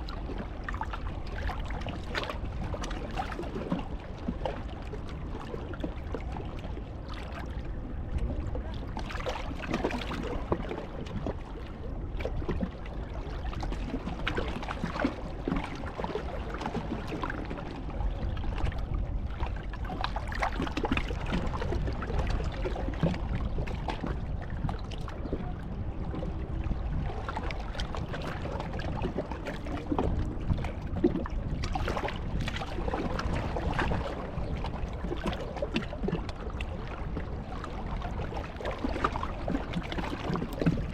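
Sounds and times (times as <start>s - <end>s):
low rumble: 0.0s - 40.9s
sea water lapping at shore: 0.0s - 40.9s.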